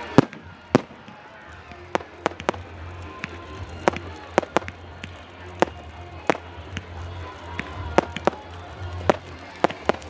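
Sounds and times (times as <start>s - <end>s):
fireworks bangs and cracks: 0.0s - 10.0s.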